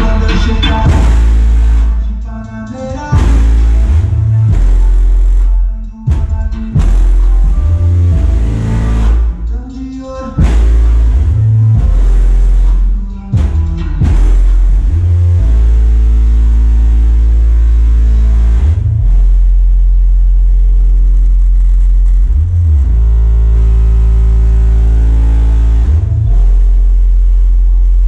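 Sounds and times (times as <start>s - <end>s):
rap music with heavy sub-bass: 0.0s - 28.0s.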